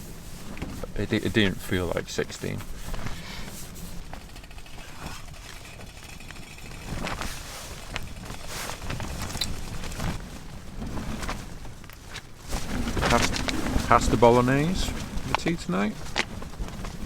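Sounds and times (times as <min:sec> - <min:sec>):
short rustles and clicks: 0:00.0 - 0:17.0
wind rumbling: 0:00.0 - 0:17.0.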